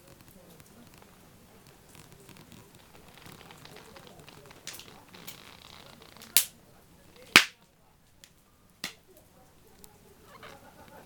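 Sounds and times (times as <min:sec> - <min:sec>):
sharp pops from fire: 0:00.0 - 0:09.2
wood fire crackling: 0:00.0 - 0:11.0.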